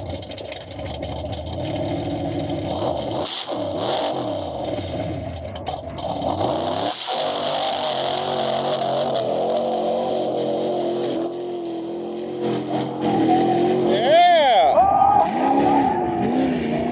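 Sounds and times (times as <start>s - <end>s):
truck engine revving: 0.0s - 16.9s.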